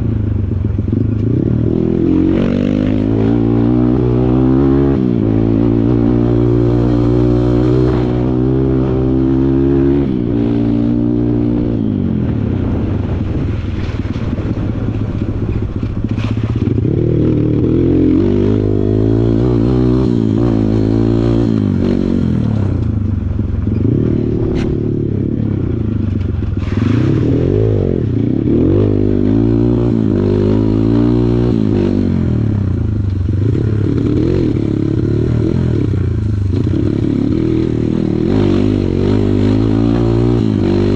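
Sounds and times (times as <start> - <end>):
dirt bike engine revving: 0.6 - 40.9.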